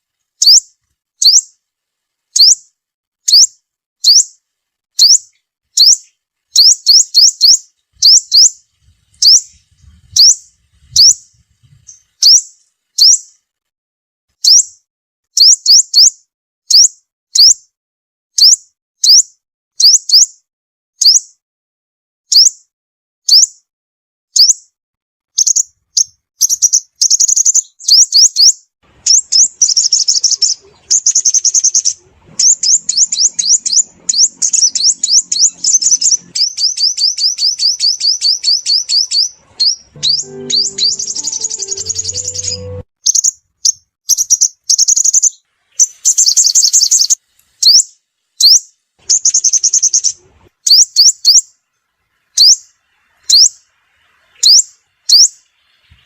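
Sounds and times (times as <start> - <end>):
bird chirping: 0.0 - 1.6, 2.3 - 13.4, 14.4 - 14.8, 15.4 - 17.6, 18.4 - 20.3, 21.0 - 21.4, 25.4 - 56.0.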